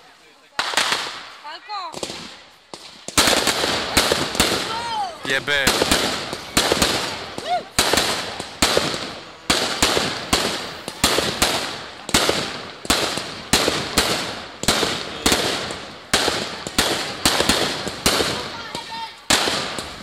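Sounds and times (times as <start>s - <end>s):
firework bangs: 0.6s - 20.0s.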